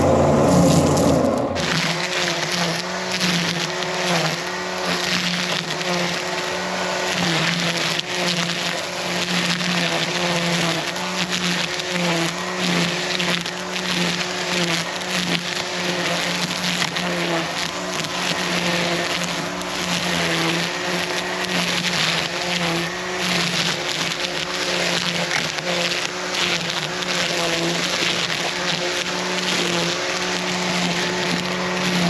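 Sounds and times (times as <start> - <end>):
string trimmer running and cutting: 0.0 - 32.0.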